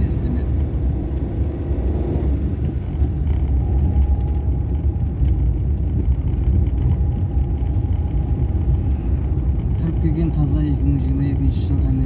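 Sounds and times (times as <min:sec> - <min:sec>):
car rumbling on rough road: 0:00.0 - 0:12.0.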